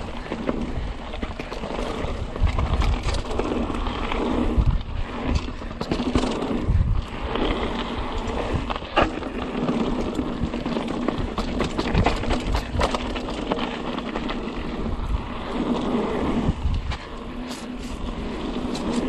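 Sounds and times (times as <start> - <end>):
bike rattling over bumps: 0.0 - 19.0
bike tyres on dirt: 0.0 - 19.0
wind rumble on microphone: 0.0 - 19.0.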